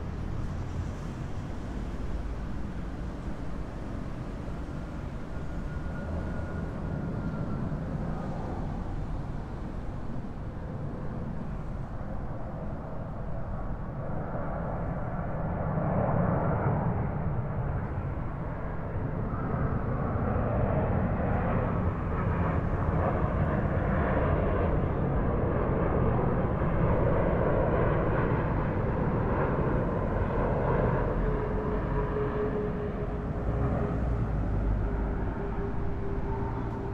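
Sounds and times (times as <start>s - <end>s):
low-flying airplane engine: 0.0s - 36.9s.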